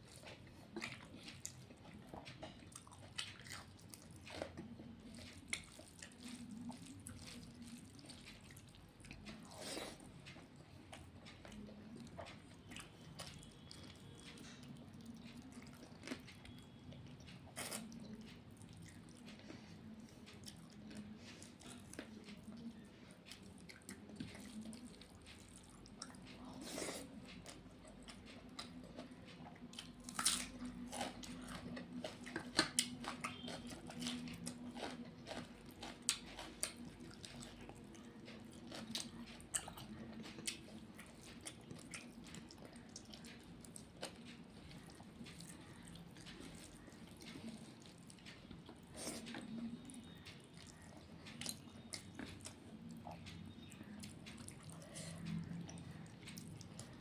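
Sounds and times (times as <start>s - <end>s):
low steady hum: 0.0s - 57.0s
person chewing: 0.0s - 57.0s.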